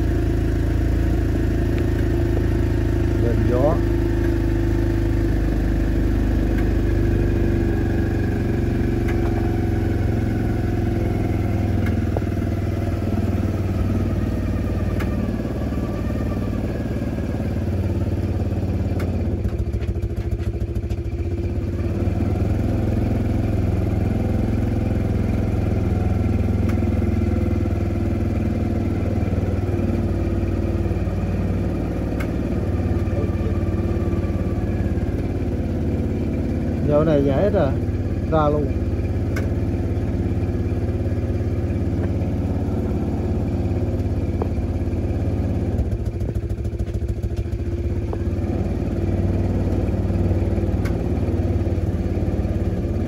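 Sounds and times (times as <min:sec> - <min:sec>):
boat motor running: 0:00.0 - 0:53.0.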